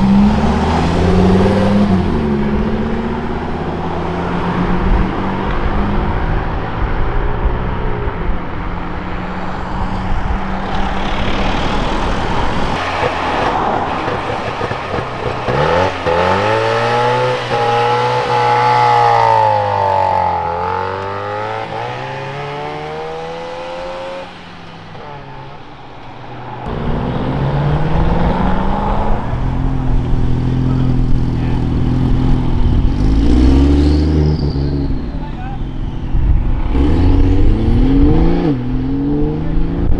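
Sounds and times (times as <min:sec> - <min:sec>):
car engine revving: 0:00.0 - 0:39.9
modified cars driving past: 0:00.0 - 0:39.9.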